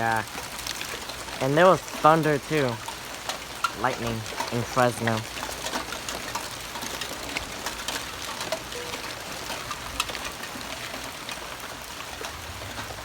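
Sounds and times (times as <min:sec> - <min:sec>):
heavy rain hiss: 0:00.0 - 0:13.0
raindrops ticking on surfaces: 0:00.0 - 0:13.0.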